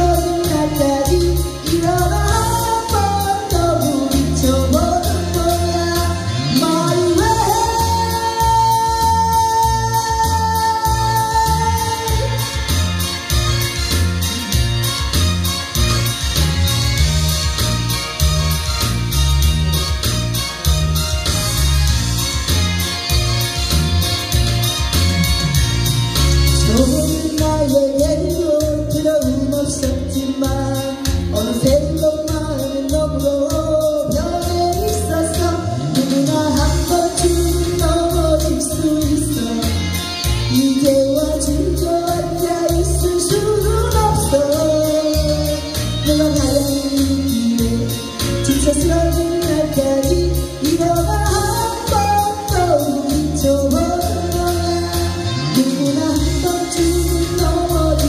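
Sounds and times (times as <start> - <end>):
instrumental accompaniment with beat: 0.0 - 58.0
woman singing pop song: 0.0 - 58.0.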